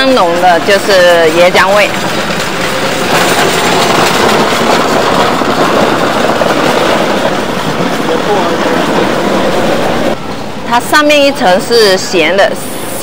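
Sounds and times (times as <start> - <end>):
busy open-air market din: 0.0 - 13.0.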